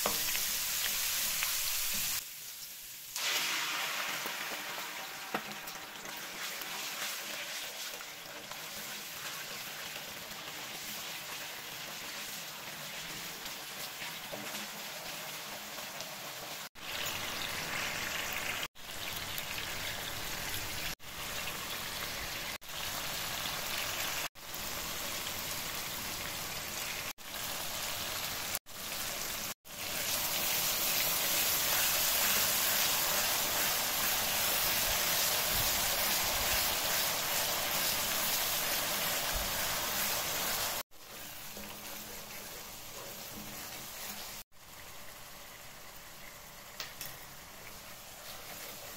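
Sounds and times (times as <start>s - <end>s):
oil and spices sizzling in a pan: 0.0s - 48.9s.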